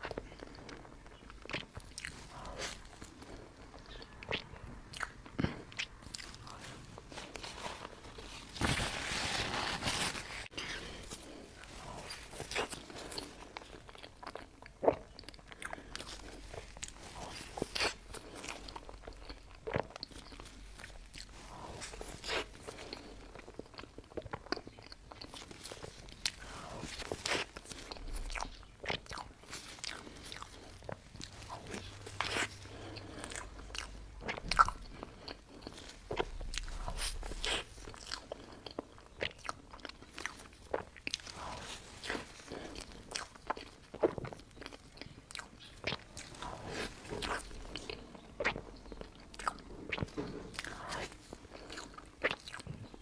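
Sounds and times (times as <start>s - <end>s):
person chewing cake: 0.0s - 53.0s.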